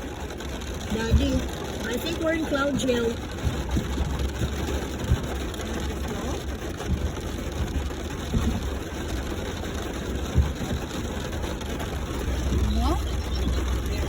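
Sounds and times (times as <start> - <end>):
heavy rain falling: 0.0 - 14.0
low rumble: 0.0 - 14.0.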